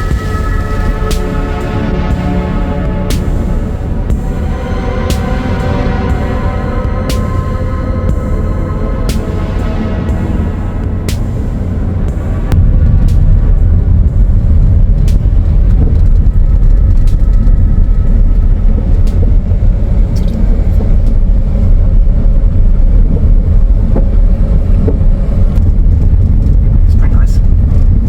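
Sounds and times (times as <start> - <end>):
car driving rumble: 0.0 - 28.0.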